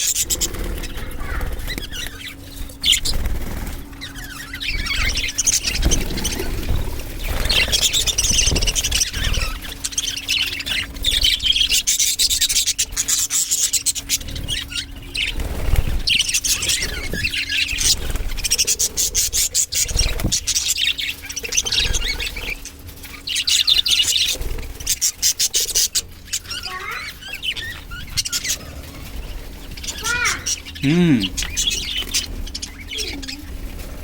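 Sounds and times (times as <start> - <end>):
budgerigars chirping and chattering: 0.0 - 34.0.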